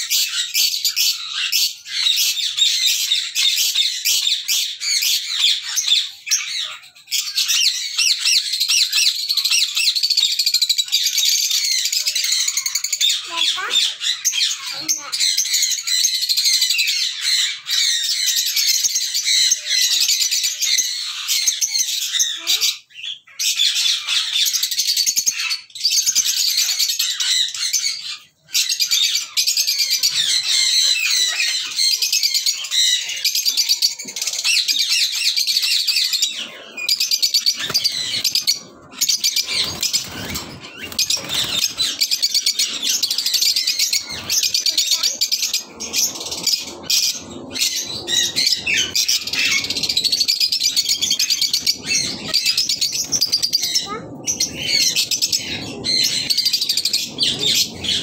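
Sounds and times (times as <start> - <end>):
lovebirds chattering and squawking: 0.0 - 58.0.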